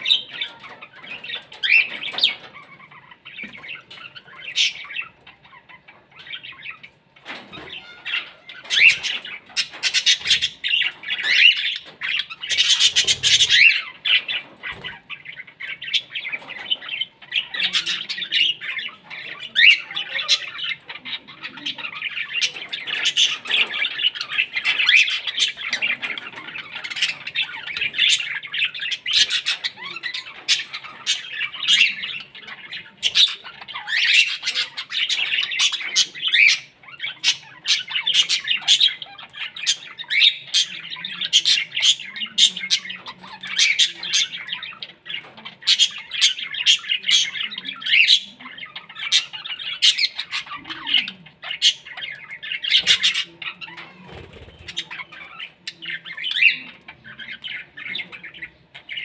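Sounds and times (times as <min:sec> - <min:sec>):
birds chattering and squawking: 0:00.0 - 0:59.0.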